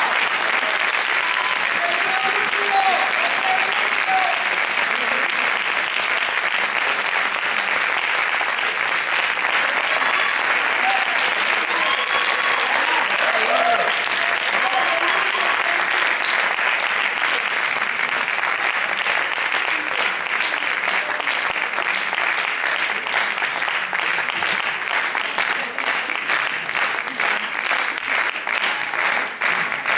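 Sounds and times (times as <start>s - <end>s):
audience applauding: 0.0s - 29.9s.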